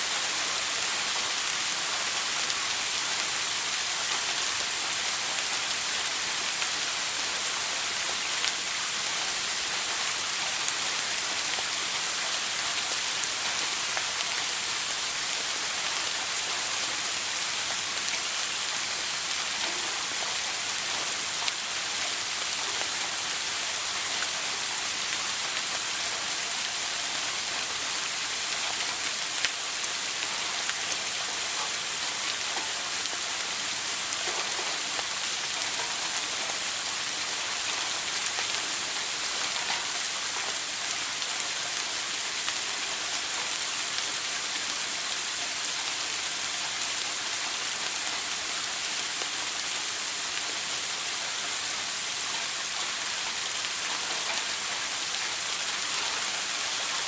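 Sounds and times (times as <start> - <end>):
faint drip-like ticks: 0.0 - 57.0.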